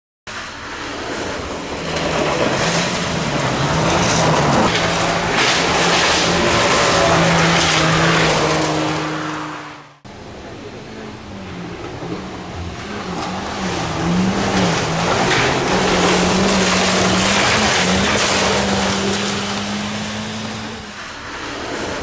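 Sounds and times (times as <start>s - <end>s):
second car engine: 0.3s - 22.0s
rally car engine revving: 0.4s - 22.0s
tyres on gravel: 0.6s - 9.7s, 11.4s - 22.0s.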